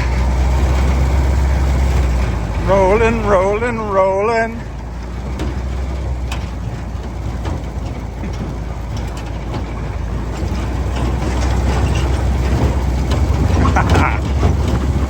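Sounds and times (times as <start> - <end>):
jeep engine low rumble: 0.0 - 15.0
light rattles: 0.0 - 15.0.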